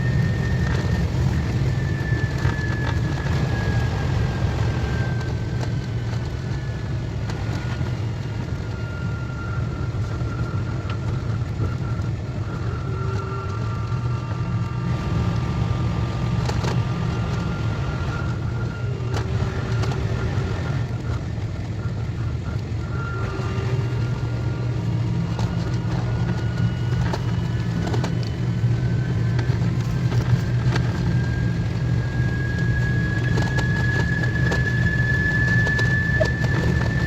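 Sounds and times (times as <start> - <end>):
faint high whine: 0.0 - 37.0
high-speed train rumble: 0.0 - 37.0.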